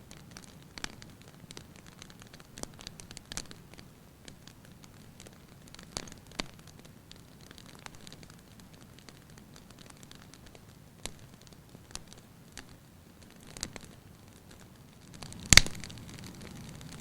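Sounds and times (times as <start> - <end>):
wood fire crackling: 0.0 - 17.0
loud snap of fire: 0.1 - 17.0.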